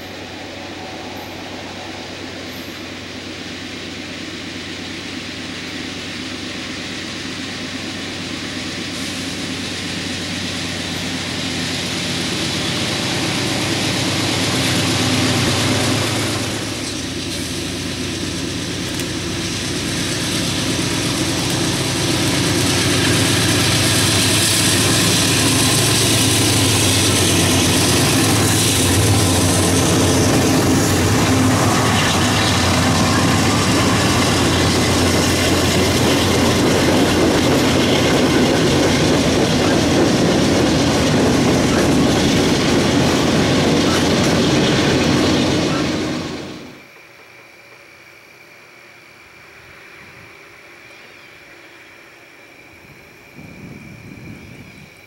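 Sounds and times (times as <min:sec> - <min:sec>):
freight cars rolling over rails: 0:00.0 - 0:46.9
locomotive engine drone: 0:00.0 - 0:55.0.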